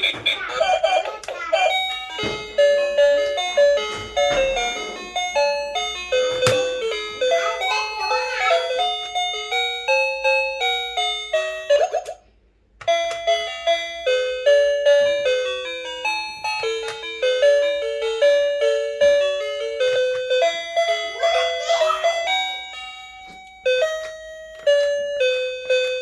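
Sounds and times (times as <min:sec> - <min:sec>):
electronic toy piano tune: 0:00.0 - 0:26.0.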